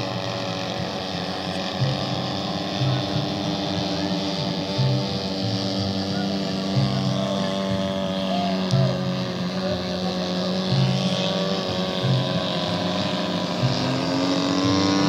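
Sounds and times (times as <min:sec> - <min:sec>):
model airplane engines buzzing: 0:00.0 - 0:15.0.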